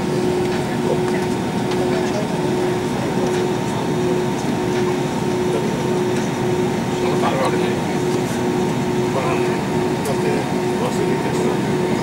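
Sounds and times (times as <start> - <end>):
air-conditioning and engine rush: 0.0 - 12.0
faint passenger voices: 0.0 - 12.0.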